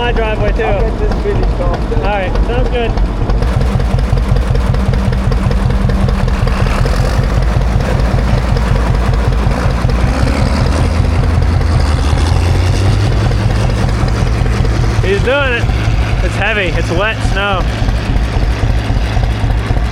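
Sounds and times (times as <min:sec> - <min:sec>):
tractor engine pulsing: 0:00.0 - 0:19.9.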